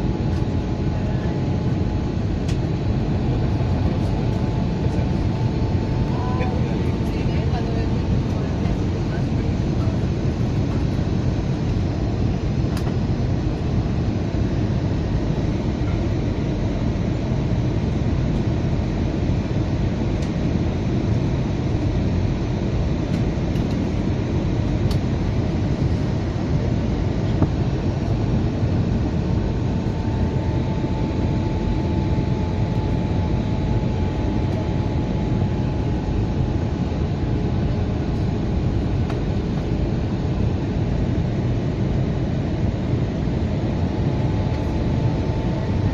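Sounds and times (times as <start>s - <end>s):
airplane cabin engine noise: 0.0s - 45.9s.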